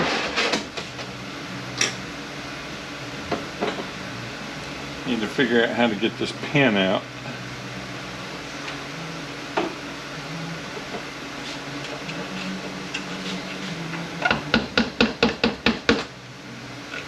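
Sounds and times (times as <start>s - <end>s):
shop fan hum: 0.0s - 17.0s.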